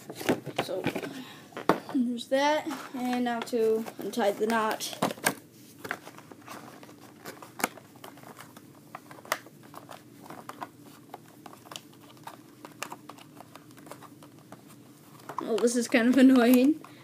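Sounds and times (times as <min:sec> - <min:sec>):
plastic packaging clicking and crinkling: 0:03.0 - 0:17.0.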